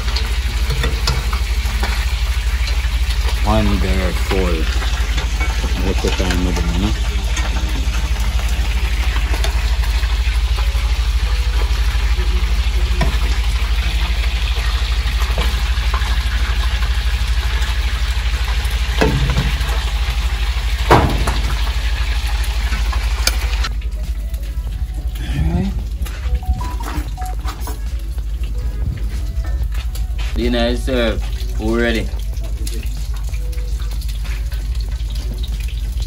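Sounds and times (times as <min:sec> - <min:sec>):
constant low hum: 0:00.0 - 0:36.0
food sizzling in hot oil: 0:00.0 - 0:36.0.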